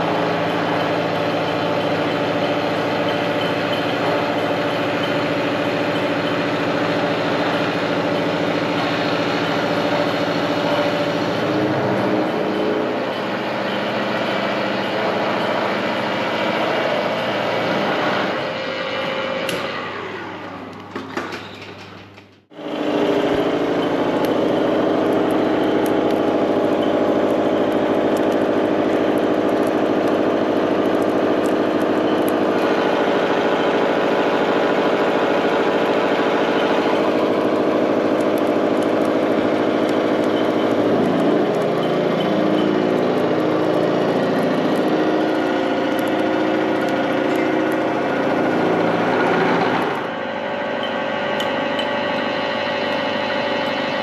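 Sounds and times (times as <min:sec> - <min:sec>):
machine tool humming: 0:00.0 - 0:21.0, 0:22.5 - 0:54.0.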